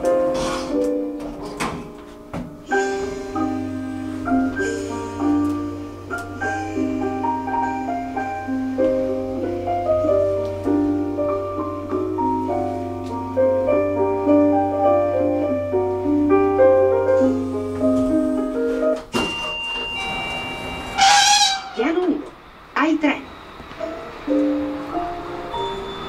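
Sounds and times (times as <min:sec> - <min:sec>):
soft piano music: 0:00.0 - 0:21.7, 0:22.4 - 0:26.0
lift humming: 0:00.0 - 0:26.0.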